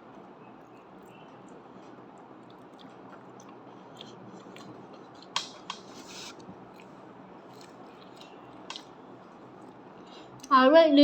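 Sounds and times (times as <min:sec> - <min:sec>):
chewing and mouth clicks: 0:00.7 - 0:05.4, 0:06.4 - 0:10.5.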